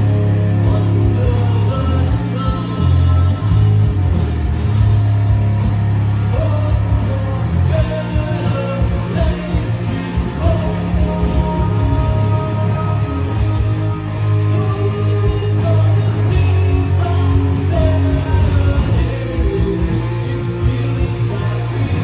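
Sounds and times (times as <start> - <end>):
bass guitar: 0.0 - 22.0
drum kit: 0.0 - 22.0
electric guitars: 0.0 - 22.0.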